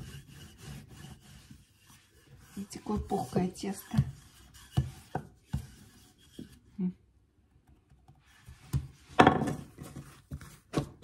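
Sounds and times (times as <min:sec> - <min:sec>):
rolling pin knocking and rubbing: 0:00.0 - 0:06.6, 0:07.7 - 0:11.0.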